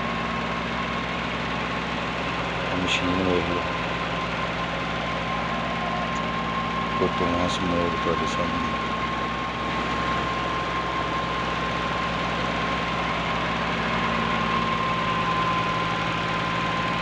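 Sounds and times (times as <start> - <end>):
diesel tractor engine running: 0.0 - 17.0
high machinery whine: 0.0 - 17.0.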